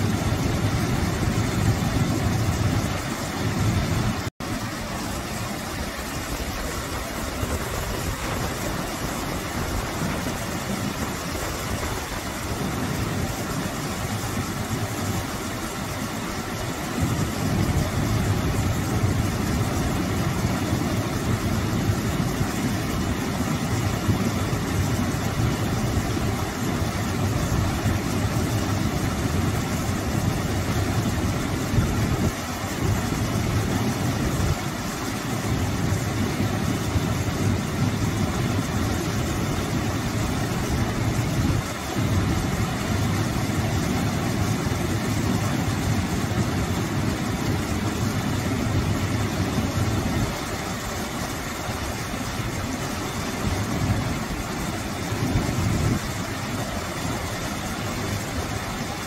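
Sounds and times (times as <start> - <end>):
small waterfall rushing splash: 0.0 - 59.0.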